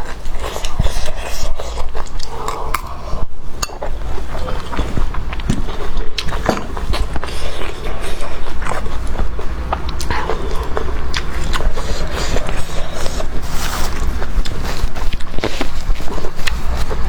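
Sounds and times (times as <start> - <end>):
chewing and crunching: 0.0 - 17.0
steady low rumble: 1.8 - 17.0.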